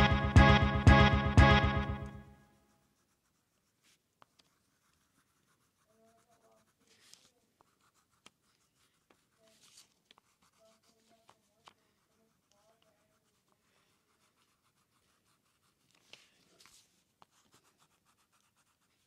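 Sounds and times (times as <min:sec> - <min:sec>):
crayon scratching on paper: 0:02.6 - 0:19.0.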